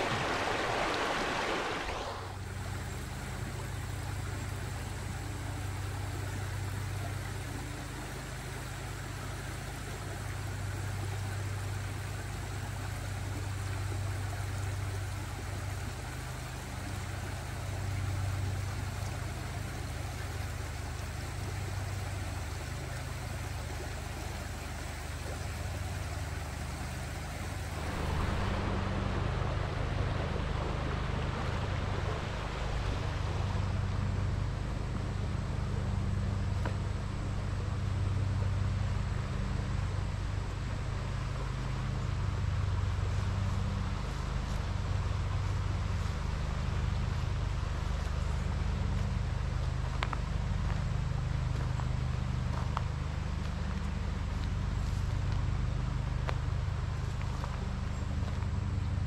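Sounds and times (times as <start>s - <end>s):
low machine hum: 0.0s - 59.0s
running water: 0.0s - 59.0s.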